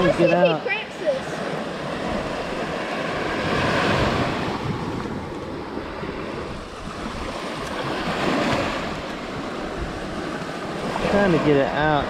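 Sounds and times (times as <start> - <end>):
waves washing on beach: 0.0 - 12.0
wind buffeting microphone: 1.1 - 12.0.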